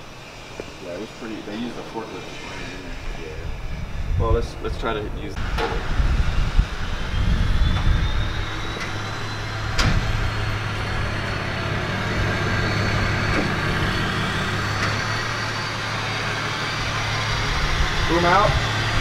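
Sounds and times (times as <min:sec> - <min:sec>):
motor humming and whining: 0:00.0 - 0:19.0.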